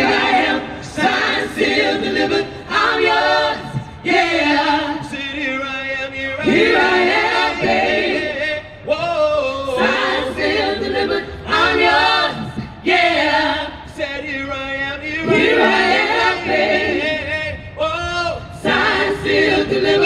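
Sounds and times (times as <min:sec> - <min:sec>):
vocal group singing harmonies: 0:00.0 - 0:20.0.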